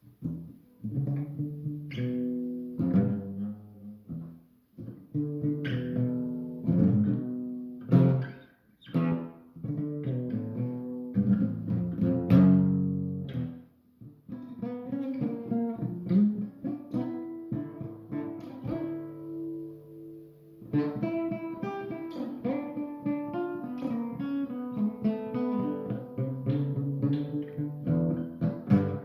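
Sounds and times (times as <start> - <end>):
guitar playing: 0.0 - 29.0.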